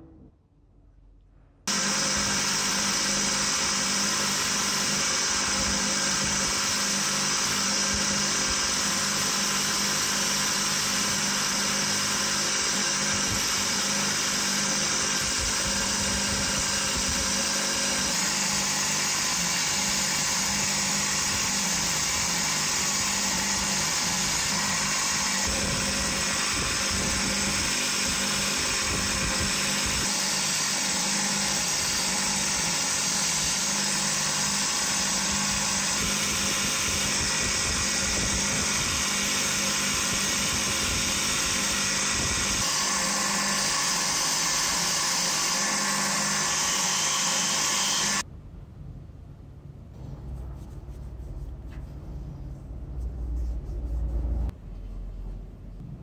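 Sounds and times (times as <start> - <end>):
bench grinder motor humming: 1.7 - 48.2.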